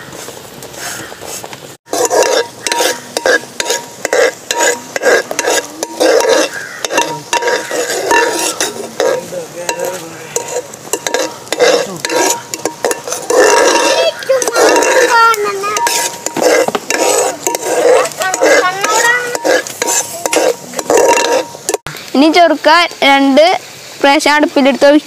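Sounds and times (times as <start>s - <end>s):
utensil scraping a pan: 0.0s - 21.9s.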